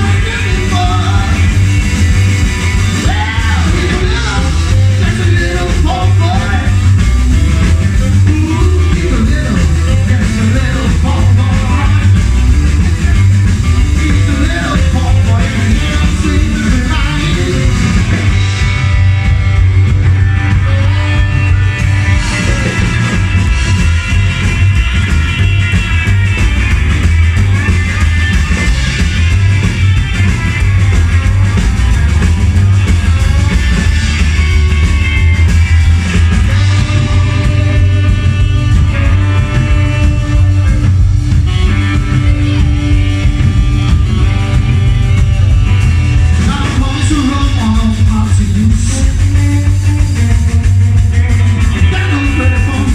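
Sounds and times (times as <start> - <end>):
loud rock music with guitar: 0.0 - 52.9.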